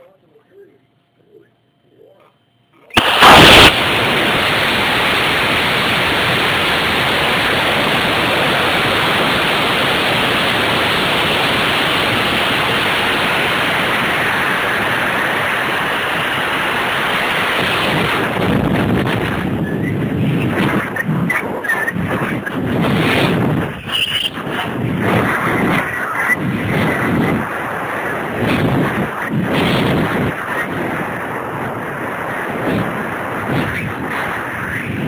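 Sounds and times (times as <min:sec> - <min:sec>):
rocket motor blast: 0:03.0 - 0:35.0.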